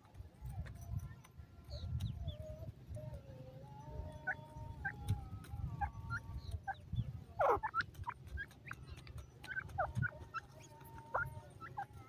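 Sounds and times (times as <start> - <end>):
birds chirping and peeping: 0.0 - 12.0.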